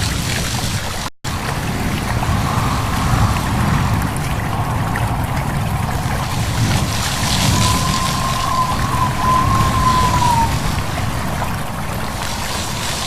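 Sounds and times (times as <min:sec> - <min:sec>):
wind: 0:00.0 - 0:13.0
stream babbling: 0:01.3 - 0:13.0.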